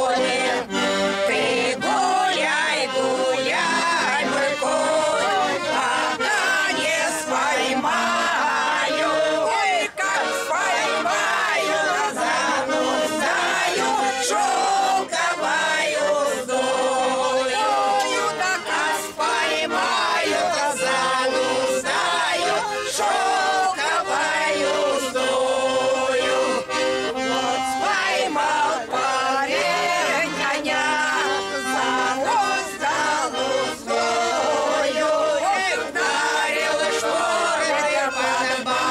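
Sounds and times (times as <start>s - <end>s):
button accordion playing: 0.0s - 38.9s
group singing along: 0.0s - 38.9s.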